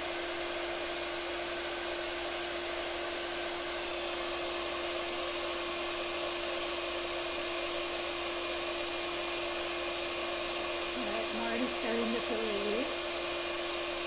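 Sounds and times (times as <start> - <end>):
small fan whirring: 0.0 - 14.0.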